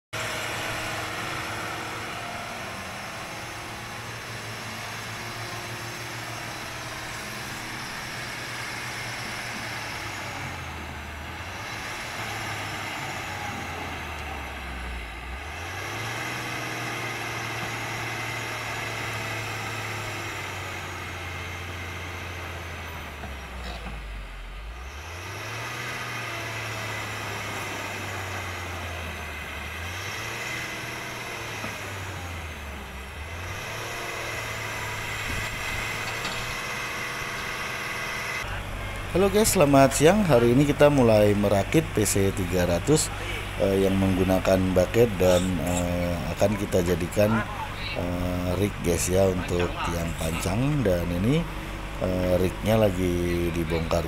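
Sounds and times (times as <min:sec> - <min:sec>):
excavator diesel engine revving: 0:00.2 - 0:54.0.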